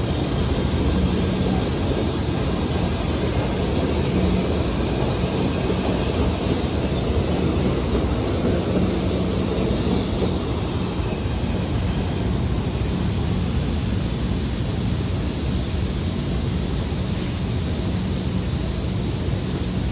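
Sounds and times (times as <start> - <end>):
train rumbling through station: 0.0 - 19.9.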